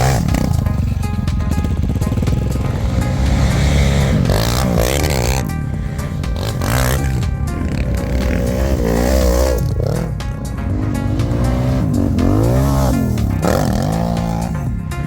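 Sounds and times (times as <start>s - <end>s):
music playing: 0.0s - 15.0s
quad bike engine revving: 0.0s - 15.0s.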